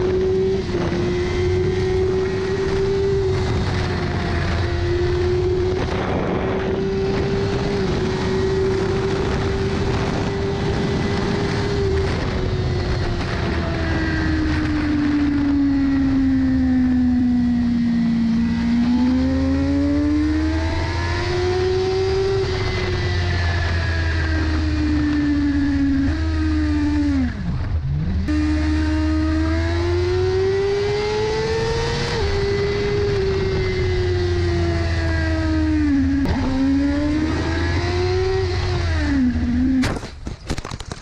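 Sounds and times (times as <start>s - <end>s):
motorcycle engine at high revs: 0.0s - 40.1s
wind rush: 0.0s - 40.2s.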